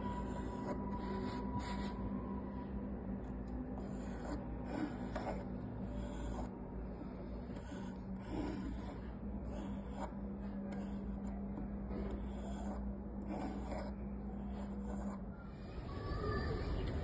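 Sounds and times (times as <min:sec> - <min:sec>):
pencil scratching on wood: 0:00.0 - 0:02.1, 0:03.2 - 0:15.4
steady low hum: 0:00.0 - 0:17.0.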